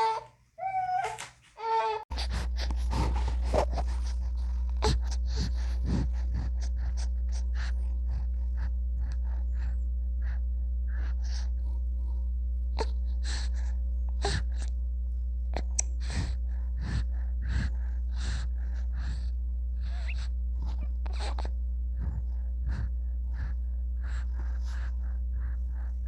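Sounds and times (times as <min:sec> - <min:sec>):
steady low hum: 0:02.0 - 0:26.0.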